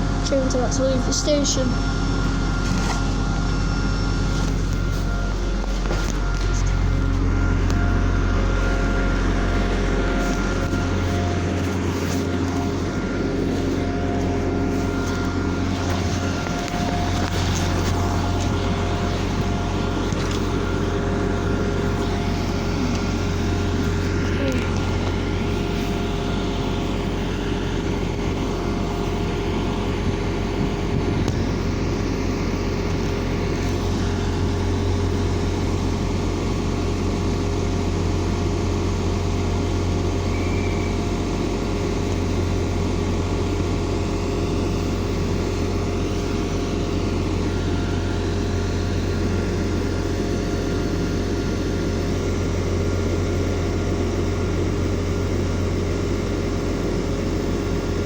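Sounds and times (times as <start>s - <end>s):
diesel train engine idling: 0.0s - 58.0s.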